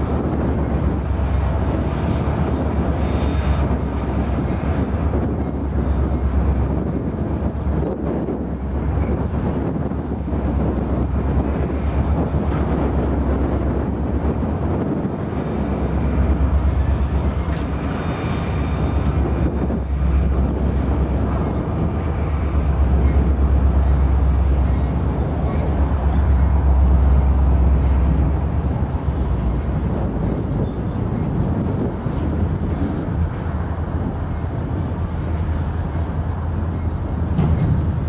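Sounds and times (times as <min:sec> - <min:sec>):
freight train rolling: 0:00.0 - 0:38.0
wind buffeting microphone: 0:00.0 - 0:38.0.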